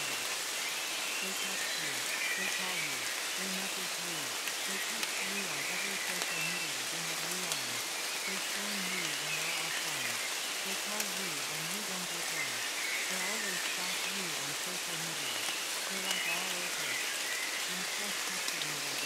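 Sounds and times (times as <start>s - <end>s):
steady rain falling: 0.0s - 19.0s
person speaking in low voice: 1.2s - 17.0s, 17.7s - 19.0s.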